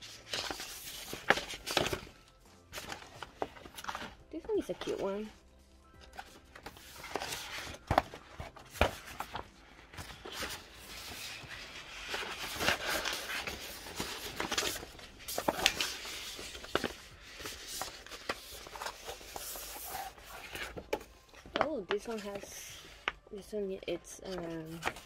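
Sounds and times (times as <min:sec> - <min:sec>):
paper rustling and crinkling: 0:00.0 - 0:05.4, 0:06.0 - 0:23.2, 0:24.3 - 0:25.0.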